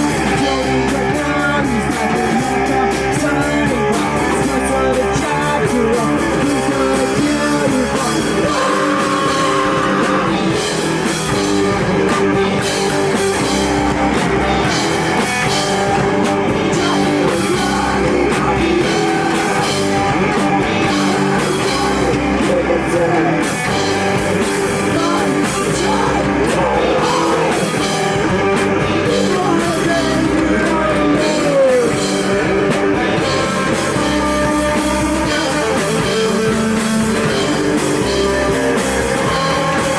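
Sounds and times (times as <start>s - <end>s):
drum kit: 0.0s - 39.9s
electric guitars: 0.0s - 39.9s
person singing: 0.0s - 39.9s.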